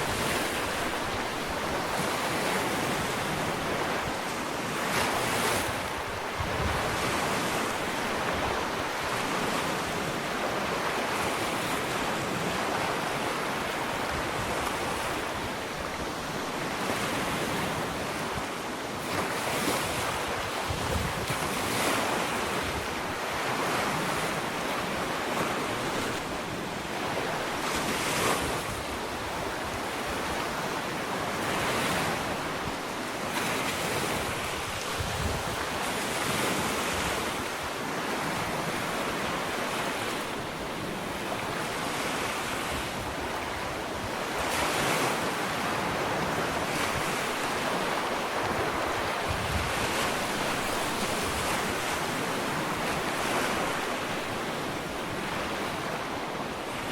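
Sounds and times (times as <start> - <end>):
ocean surf breaking: 0.0 - 56.9.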